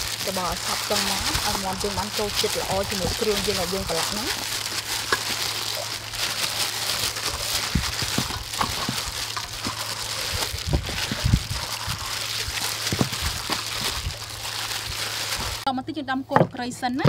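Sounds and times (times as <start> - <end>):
plastic gloves crinkling: 0.0 - 15.7
wet squelching: 0.0 - 15.7.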